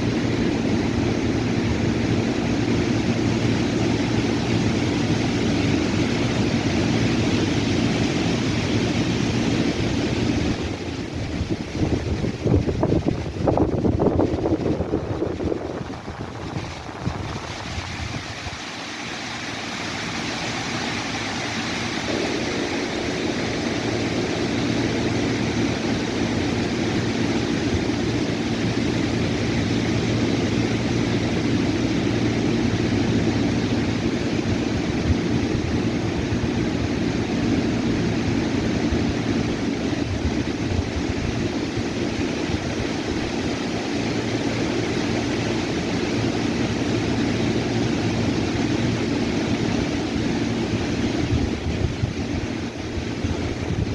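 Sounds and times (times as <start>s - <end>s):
engine droning: 0.0s - 53.9s.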